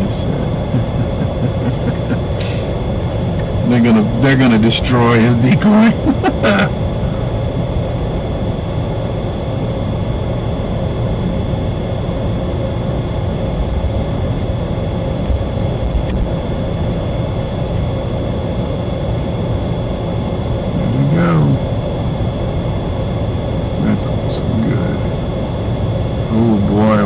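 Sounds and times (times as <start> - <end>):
faint high whine: 0.0 - 27.0.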